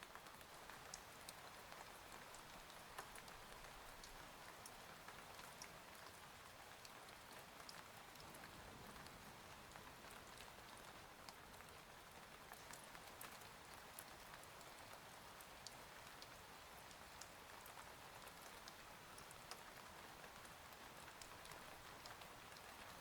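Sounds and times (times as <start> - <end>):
faint steady rain: 0.0 - 23.0
sharp ticks of raindrops: 0.0 - 23.0.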